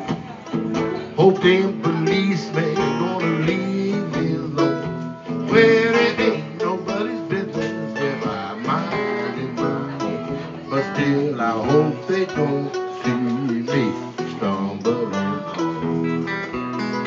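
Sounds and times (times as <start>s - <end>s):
electric guitar lead with bent notes: 0.0s - 17.0s.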